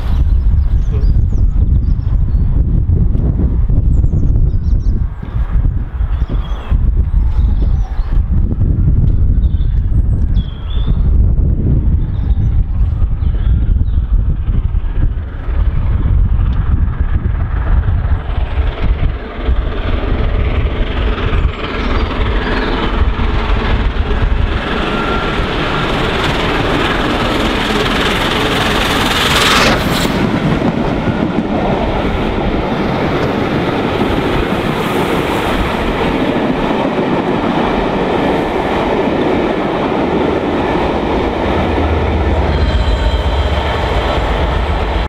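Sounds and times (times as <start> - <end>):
diesel locomotive passing: 0.0 - 45.0
rumble and clickety-clack of coaches: 0.8 - 45.0
steam locomotive passing at speed: 2.4 - 45.0.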